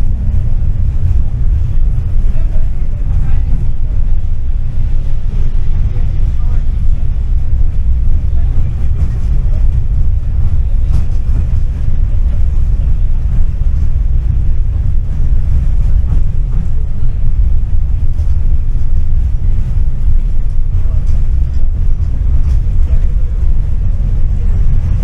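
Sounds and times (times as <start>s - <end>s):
tram rumbling on track: 0.0s - 25.0s.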